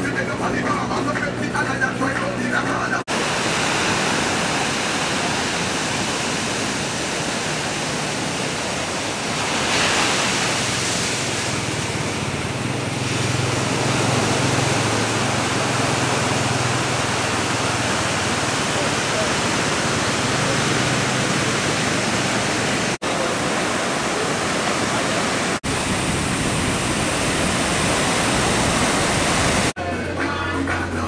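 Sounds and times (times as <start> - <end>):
ocean surf breaking on shore: 0.0 - 29.8.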